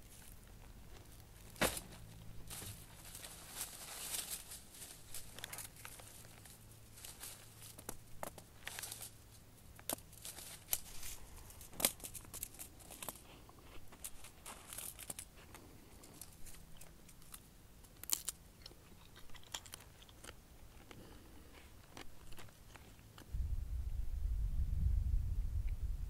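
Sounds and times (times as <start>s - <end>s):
dry pods crackling: 0.0s - 23.3s.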